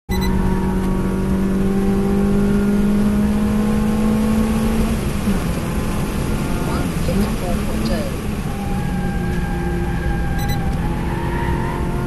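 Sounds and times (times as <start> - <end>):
car engine accelerating: 0.1 - 12.0
tyre and road noise: 0.1 - 12.0.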